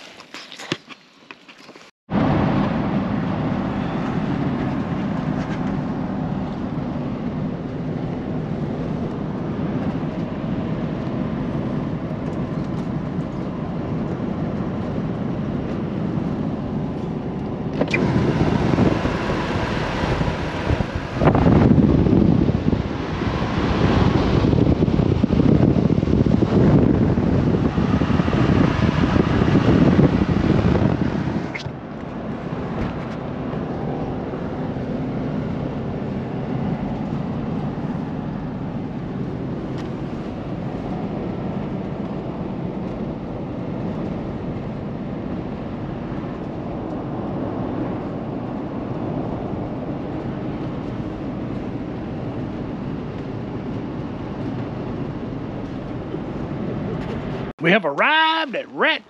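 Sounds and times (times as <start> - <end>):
wind buffeting microphone: 2.1 - 57.5.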